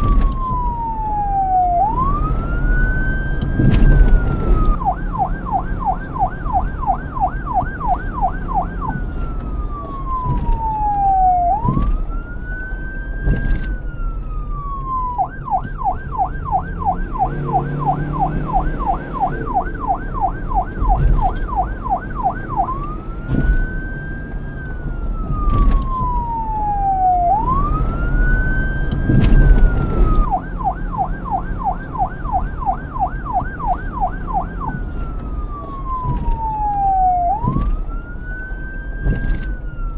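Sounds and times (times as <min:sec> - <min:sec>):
police siren yelp and wail: 0:00.0 - 0:39.9.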